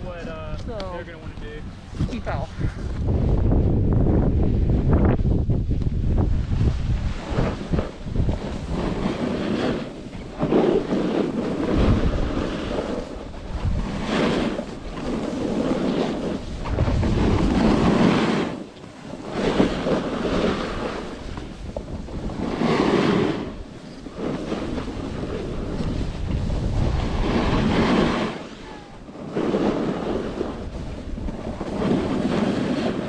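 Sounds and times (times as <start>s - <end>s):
wind buffeting microphone: 0.0s - 33.0s
skis scraping over snow: 5.8s - 33.0s.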